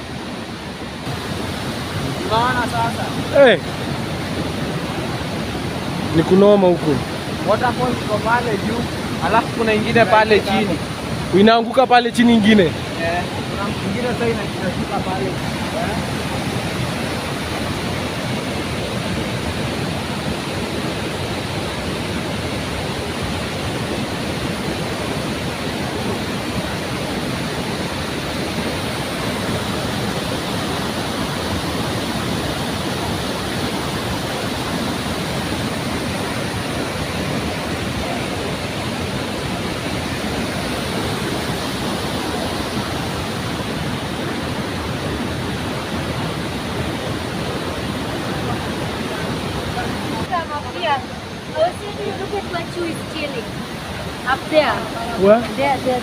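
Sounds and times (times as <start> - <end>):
waterfall crashing: 0.0 - 56.0.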